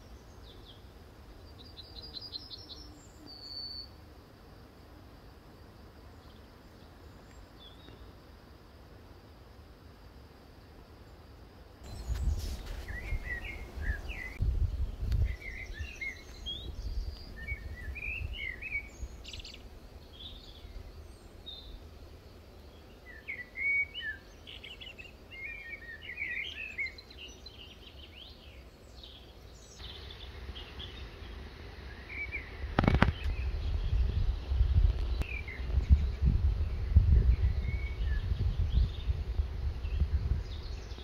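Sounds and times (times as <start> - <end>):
small songbirds chirping: 0.0 - 4.1, 5.8 - 8.4, 11.0 - 41.0.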